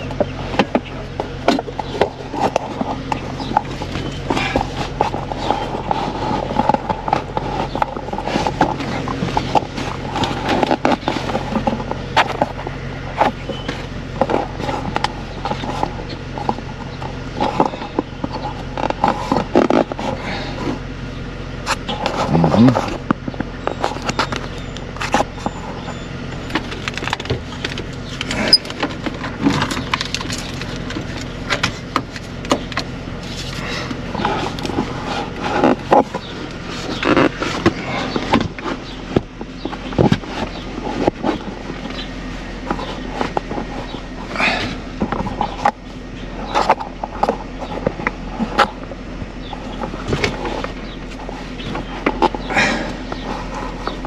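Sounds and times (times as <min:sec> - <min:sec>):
engine clicks knocks and rattles: 0:00.0 - 0:54.0
engine running with low drone: 0:00.0 - 0:54.0.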